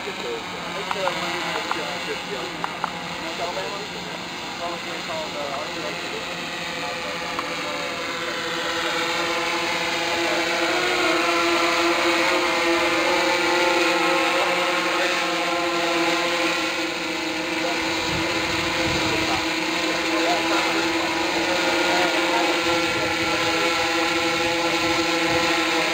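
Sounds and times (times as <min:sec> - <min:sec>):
drone propellers buzzing: 0:00.0 - 0:25.9.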